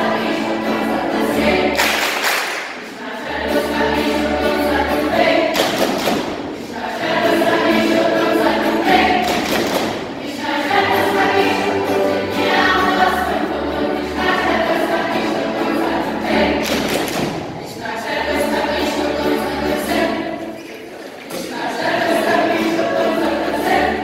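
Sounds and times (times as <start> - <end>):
girls' choir singing: 0.0 - 24.0.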